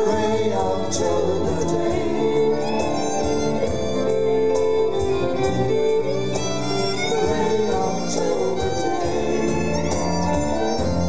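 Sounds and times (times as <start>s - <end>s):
piano: 0.0s - 11.0s
violin melody: 0.0s - 11.0s.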